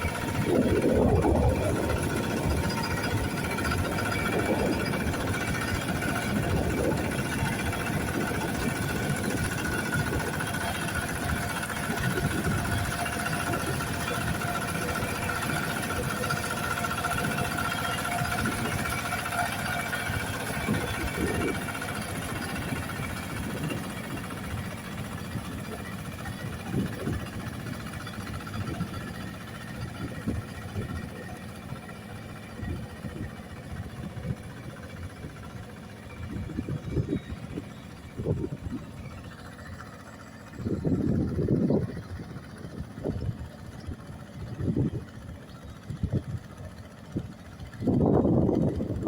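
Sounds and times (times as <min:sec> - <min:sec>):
wind buffeting microphone: 0:00.0 - 0:39.2, 0:40.3 - 0:49.0
diesel engine running: 0:00.0 - 0:49.0.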